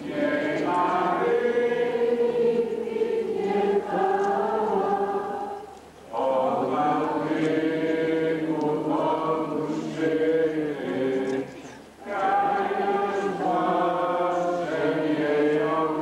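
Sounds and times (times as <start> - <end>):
group singing a hymn: 0.0 - 16.0.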